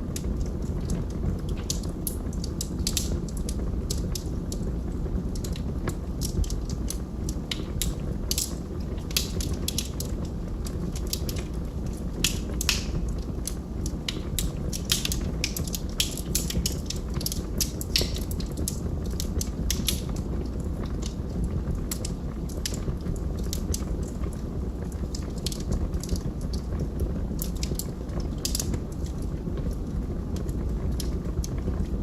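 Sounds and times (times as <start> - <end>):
log fire crackling: 0.0 - 32.0.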